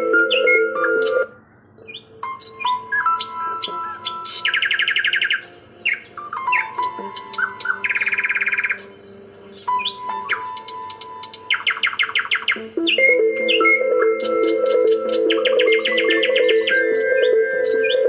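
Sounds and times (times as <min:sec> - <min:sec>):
soft background music: 0:00.0 - 0:18.0
songbirds chirping: 0:00.0 - 0:18.0
rapid bird trill: 0:00.2 - 0:18.0.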